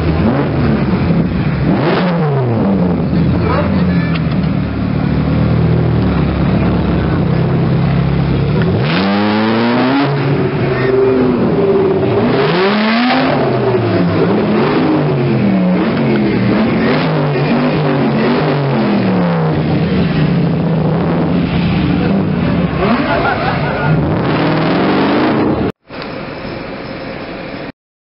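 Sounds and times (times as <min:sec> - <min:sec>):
sports car engine revving: 0:00.0 - 0:25.7.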